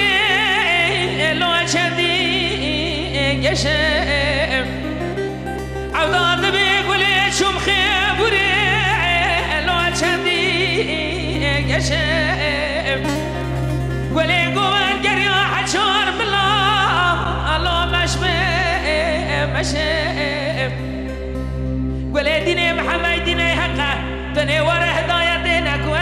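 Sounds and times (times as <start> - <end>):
low musical accompaniment: 0.0 - 26.0
person singing with vibrato: 0.0 - 26.0.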